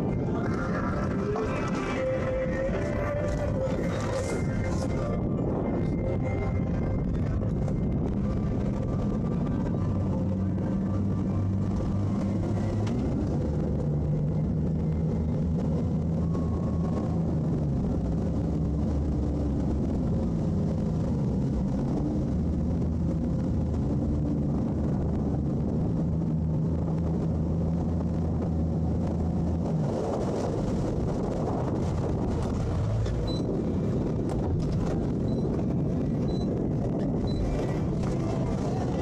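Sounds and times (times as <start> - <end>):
outboard motors running hard: 0.0 - 39.0
propellers churning water: 0.0 - 39.0.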